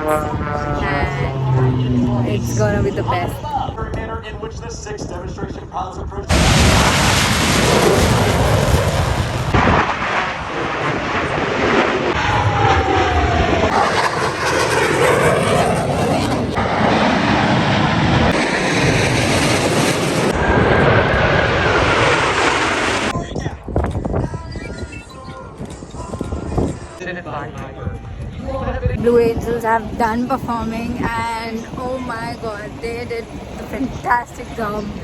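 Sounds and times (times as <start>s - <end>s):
jet engines flying past: 0.0s - 24.0s, 27.4s - 35.0s.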